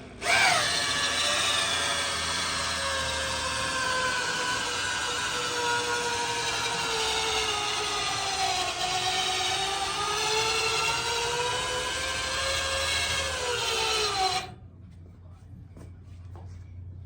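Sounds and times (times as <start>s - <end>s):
motorcycle lift motor whining: 0.0s - 14.6s.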